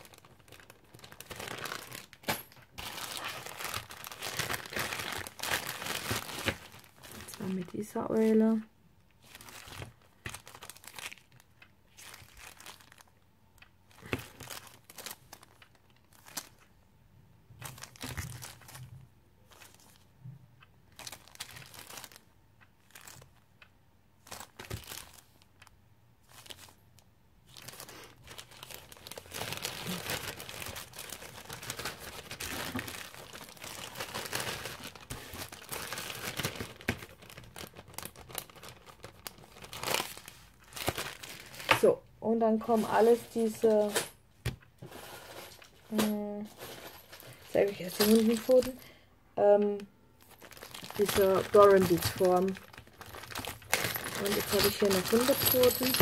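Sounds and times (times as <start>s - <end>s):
plastic bags crinkling: 0.0s - 16.8s, 17.6s - 20.1s, 20.9s - 23.6s, 24.2s - 44.2s, 44.8s - 56.0s.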